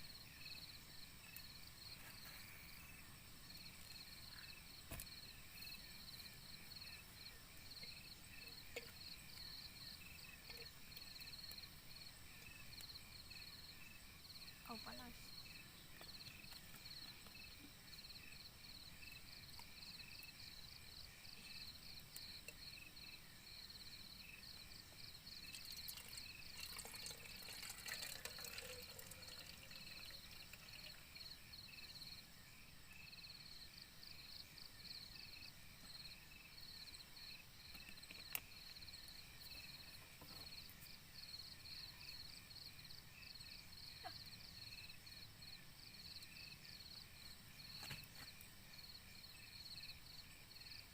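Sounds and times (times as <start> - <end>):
night insects chirping: 0.0 - 50.9.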